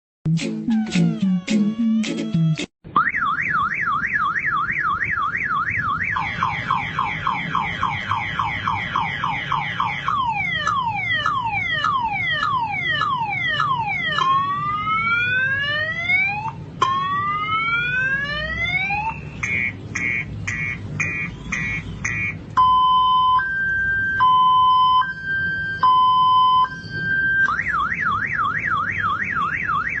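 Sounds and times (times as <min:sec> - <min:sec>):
motorcycle alarm siren: 0:01.0 - 0:30.0.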